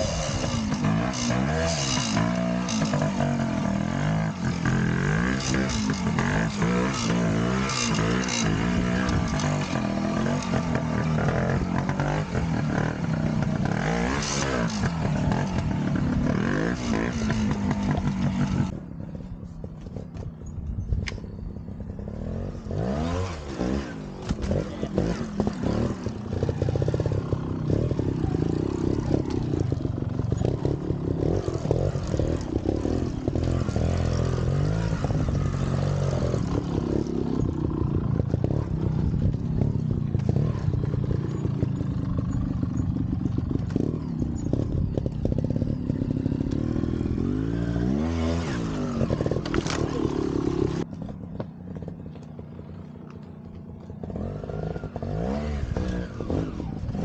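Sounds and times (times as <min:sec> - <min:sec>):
motorcycle engine revving: 0:00.0 - 0:20.4, 0:21.2 - 0:57.0.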